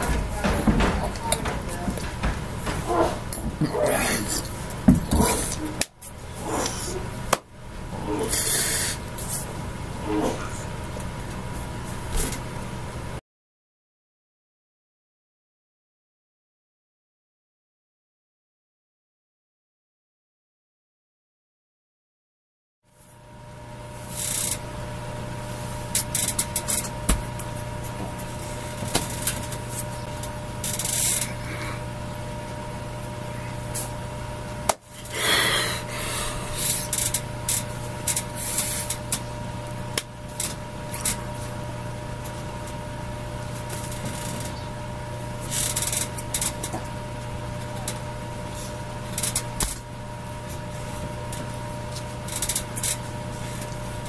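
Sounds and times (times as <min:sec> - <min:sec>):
electrical hum with faint whine: 0:00.0 - 0:13.2, 0:22.9 - 0:54.0.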